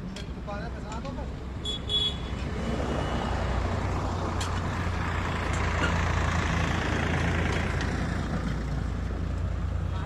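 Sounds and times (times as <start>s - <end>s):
heavy vehicle engine rumbling: 0.0s - 10.0s.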